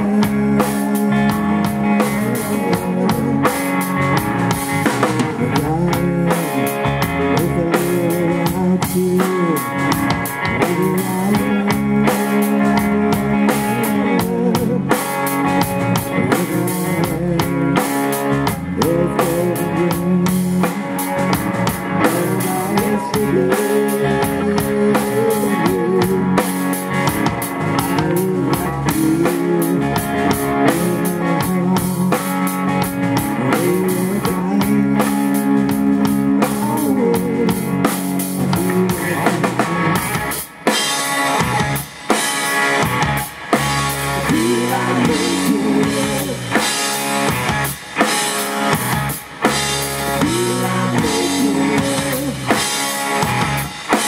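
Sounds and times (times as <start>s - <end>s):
bass guitar: 0.0s - 54.0s
electric guitar notes: 0.0s - 54.0s
steady drumming: 0.0s - 54.0s.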